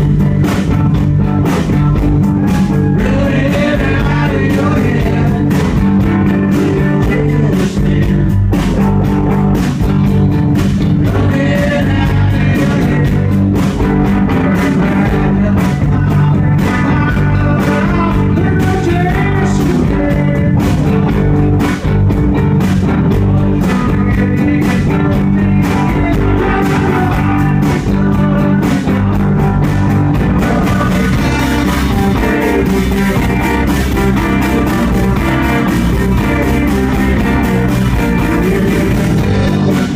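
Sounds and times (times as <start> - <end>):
electric guitars: 0.0 - 39.9
steady drum beat: 0.0 - 39.9
lead vocal singing: 2.4 - 8.4, 11.0 - 21.0, 23.1 - 39.9.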